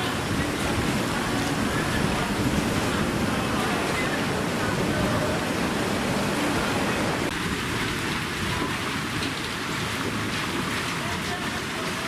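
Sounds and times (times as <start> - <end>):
water rushing on a flooded street: 0.0 - 12.0.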